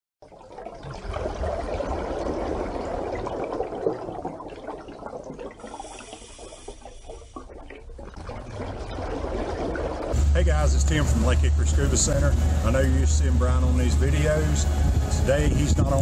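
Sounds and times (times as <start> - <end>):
water churning and bubbling: 0.2 - 16.0.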